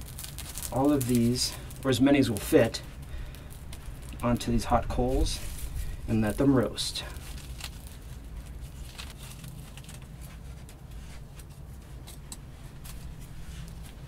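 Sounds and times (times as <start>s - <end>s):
bulbs crackling on hot coals: 0.0s - 14.0s
low steady hum: 0.0s - 14.0s.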